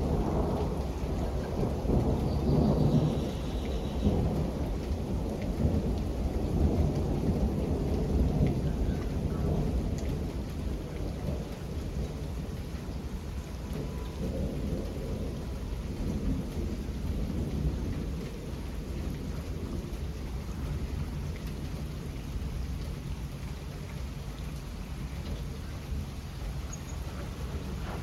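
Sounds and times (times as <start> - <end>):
rolling thunder: 0.0 - 23.1, 24.8 - 28.0
steady rain: 0.0 - 28.0.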